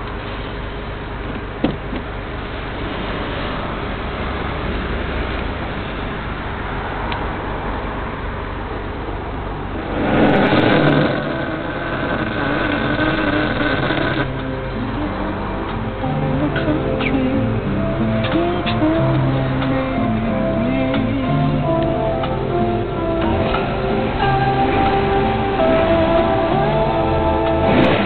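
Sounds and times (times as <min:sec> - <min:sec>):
car engine revving: 0:02.2 - 0:28.0.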